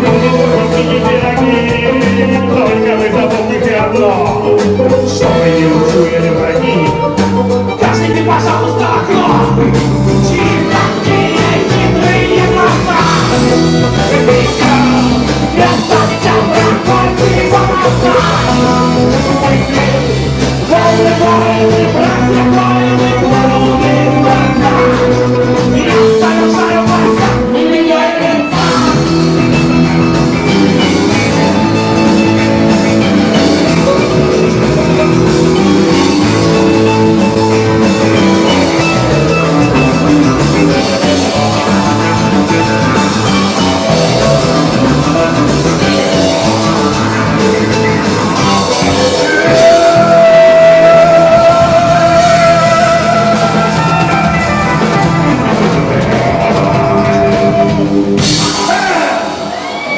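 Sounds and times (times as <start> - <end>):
rock band music: 0.0 - 59.9.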